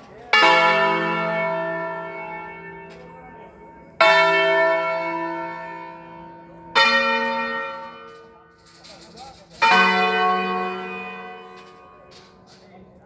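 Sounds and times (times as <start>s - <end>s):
church bells ringing: 0.0s - 12.6s.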